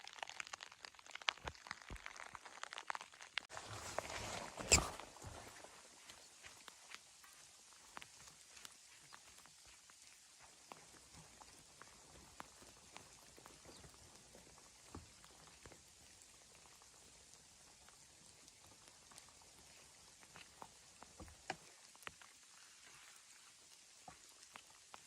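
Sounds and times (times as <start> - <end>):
small ticks and clicks: 0.0 - 3.5, 5.4 - 25.0
faint steady hiss: 3.5 - 25.0.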